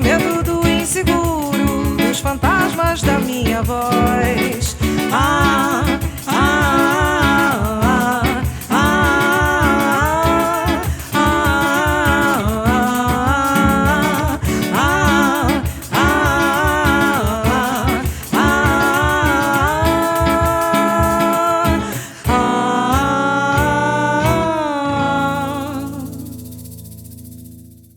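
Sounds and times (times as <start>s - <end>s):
accompaniment with steady beat: 0.0s - 24.6s
person vocalising without words: 0.0s - 26.4s.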